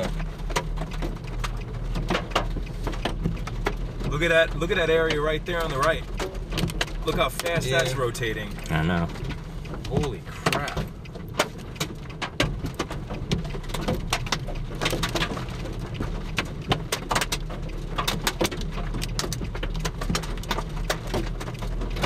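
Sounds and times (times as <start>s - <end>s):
idling vehicle hum: 0.0s - 22.0s
raindrops ticking on car: 0.0s - 22.0s.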